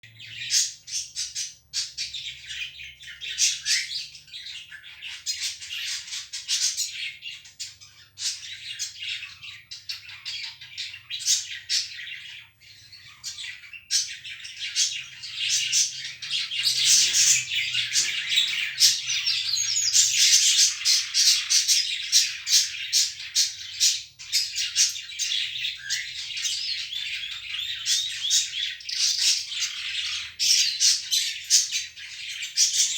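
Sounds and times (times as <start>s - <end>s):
bird chirping and squawking: 0.1s - 32.9s.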